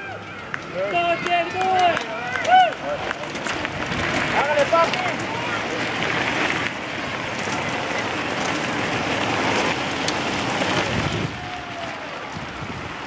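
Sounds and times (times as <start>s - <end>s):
bike tyres crunching gravel: 0.0s - 13.0s.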